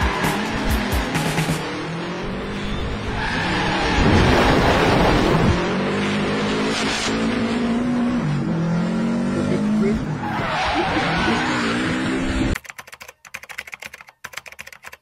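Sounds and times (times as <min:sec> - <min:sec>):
tyre and road noise: 0:00.0 - 0:12.6.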